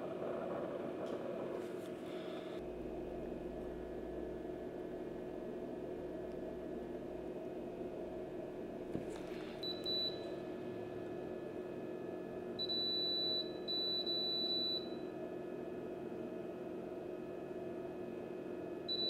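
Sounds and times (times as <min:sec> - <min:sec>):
low hum of equipment: 0:00.0 - 0:19.0.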